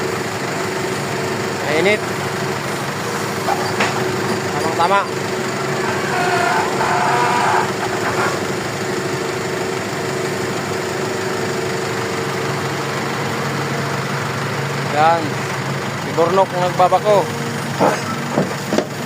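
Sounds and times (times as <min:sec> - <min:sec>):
heavy machinery engine idling: 0:00.0 - 0:19.0.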